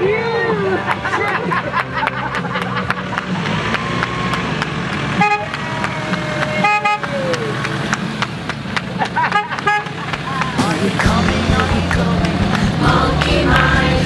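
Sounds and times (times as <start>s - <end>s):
car horn tooting: 0.0s - 8.0s, 9.1s - 12.8s
voices: 0.0s - 14.0s.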